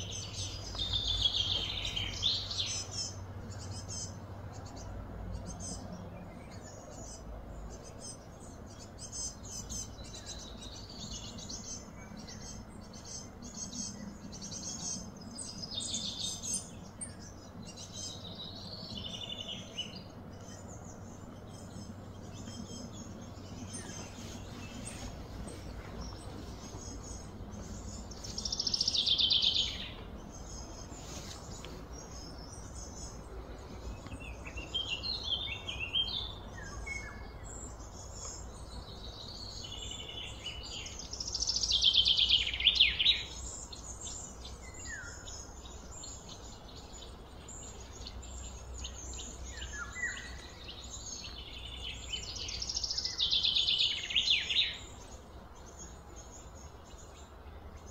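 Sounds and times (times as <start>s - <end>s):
low background noise: 0.0s - 57.9s
soft bird chirps: 0.0s - 57.9s.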